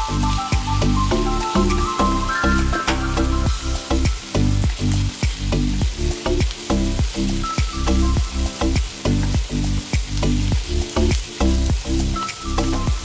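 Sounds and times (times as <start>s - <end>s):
background music with steady beat: 0.0s - 13.0s
pork sizzling in a frying pan: 0.0s - 13.0s.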